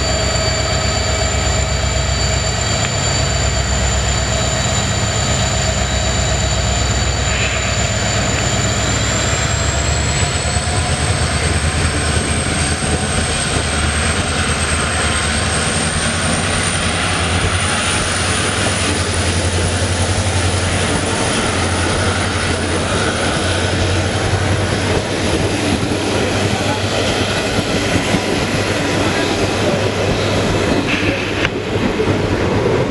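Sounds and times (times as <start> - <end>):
diesel locomotive engine rumble: 0.0 - 32.9
train wheels rolling: 0.0 - 32.9.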